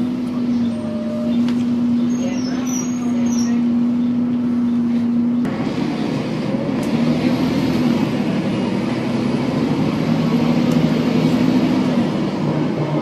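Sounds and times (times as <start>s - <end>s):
bus drivetrain droning whine: 0.0s - 13.0s.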